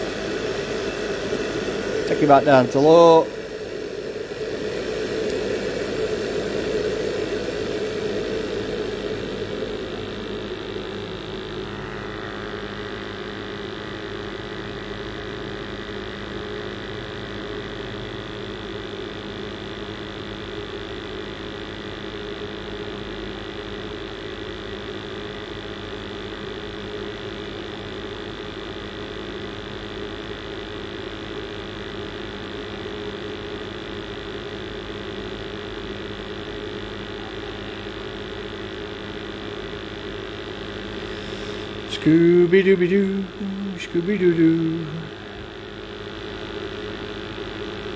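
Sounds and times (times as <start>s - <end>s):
gas boiler burner and fan roaring: 0.0s - 47.9s.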